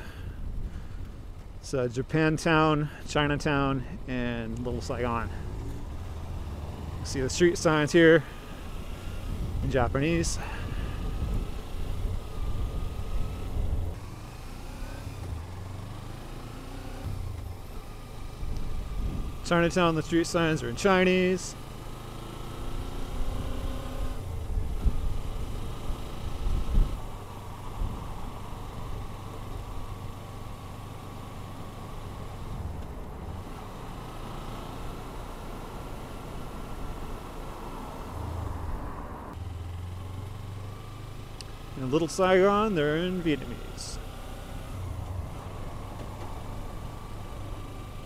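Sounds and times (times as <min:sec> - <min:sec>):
road and wind noise: 0:00.0 - 0:48.0
motorcycle engine running: 0:03.8 - 0:48.0.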